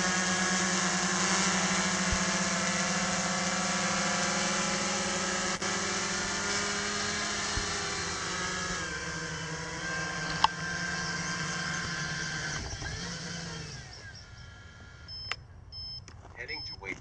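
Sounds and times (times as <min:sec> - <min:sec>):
drone propellers buzzing: 0:00.0 - 0:15.4.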